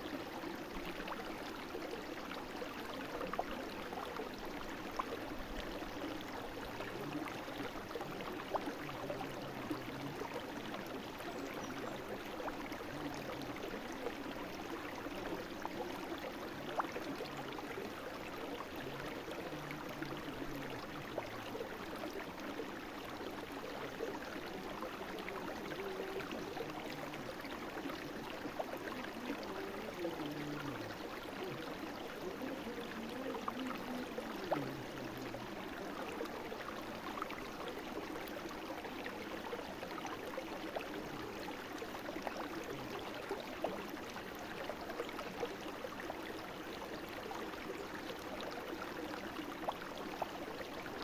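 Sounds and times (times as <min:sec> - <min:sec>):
brook water gurgling: 0:00.0 - 0:51.0.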